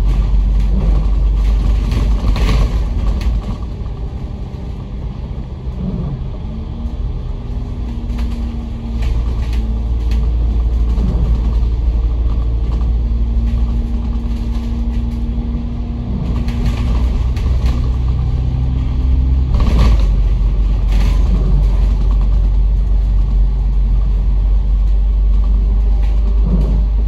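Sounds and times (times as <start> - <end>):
bus engine rumble and whine: 0.0 - 27.0.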